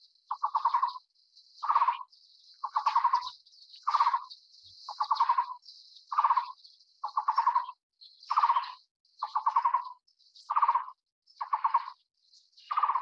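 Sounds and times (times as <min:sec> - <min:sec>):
bird trilling: 0:00.3 - 0:01.0, 0:01.6 - 0:12.0, 0:12.6 - 0:13.0.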